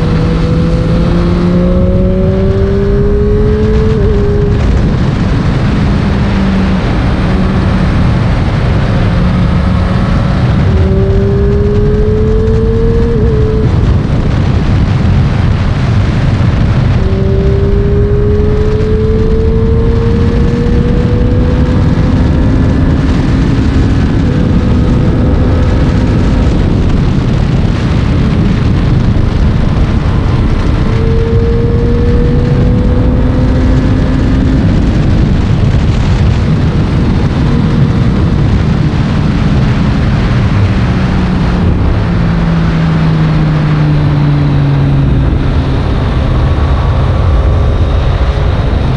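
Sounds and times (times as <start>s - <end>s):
heavy low rumble: 0.0s - 48.9s
motorcycle engine accelerating: 0.0s - 48.9s.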